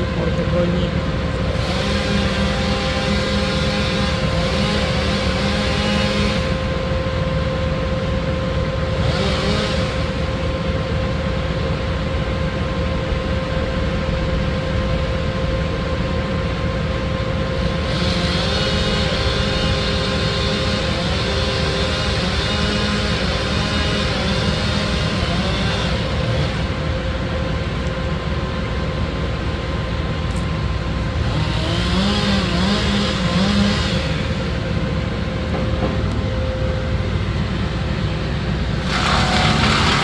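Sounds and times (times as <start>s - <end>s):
tree-cutting engine drone: 0.0s - 40.0s.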